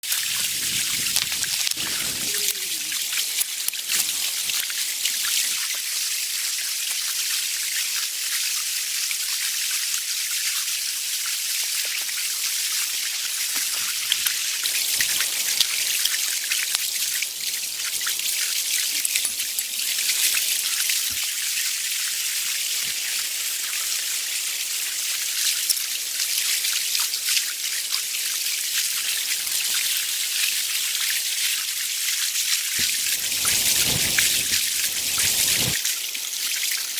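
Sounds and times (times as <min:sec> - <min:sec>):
steady rain pattering: 0:00.0 - 0:07.4, 0:11.7 - 0:36.9.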